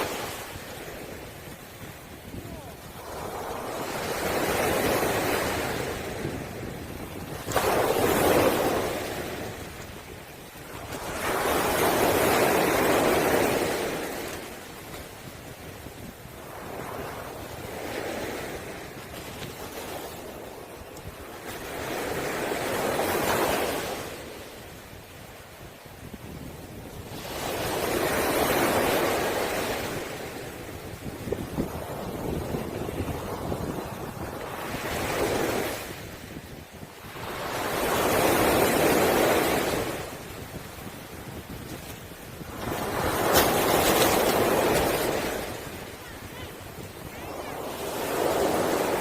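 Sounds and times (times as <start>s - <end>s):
waves washing over pebbles: 0.0s - 24.4s, 27.1s - 49.0s.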